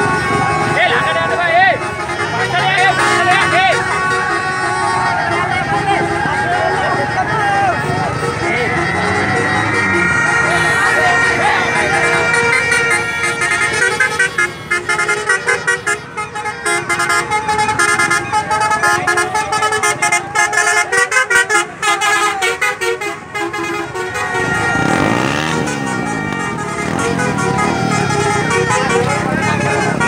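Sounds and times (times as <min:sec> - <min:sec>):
bus musical horn: 0:00.0 - 0:30.0.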